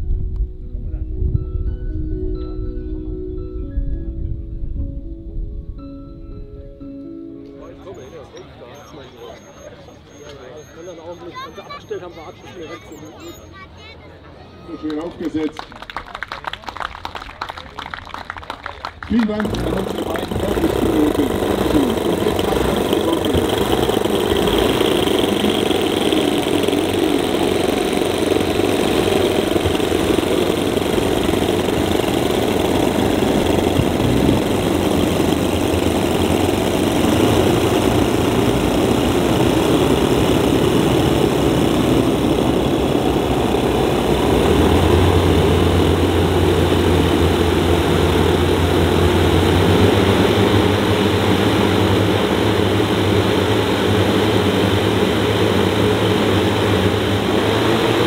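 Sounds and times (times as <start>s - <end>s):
model aircraft engines running: 7.8s - 16.1s, 17.4s - 58.0s.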